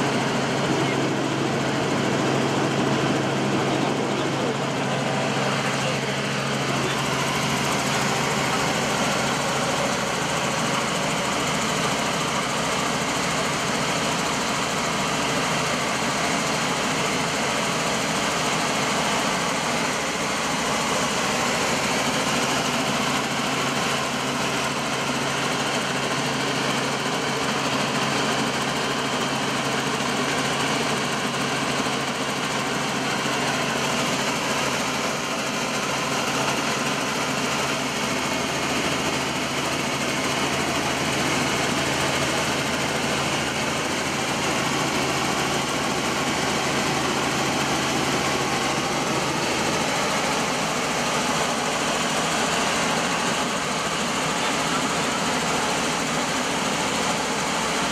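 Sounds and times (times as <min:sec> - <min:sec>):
helicopter engine and rotor drone: 0:00.0 - 0:57.9.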